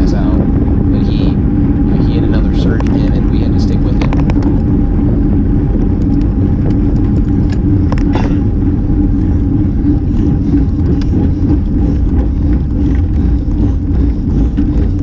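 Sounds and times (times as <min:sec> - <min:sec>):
bicycle tyre noise: 0:00.0 - 0:15.0
constant low hum: 0:00.0 - 0:15.0
wind rush: 0:00.0 - 0:15.0.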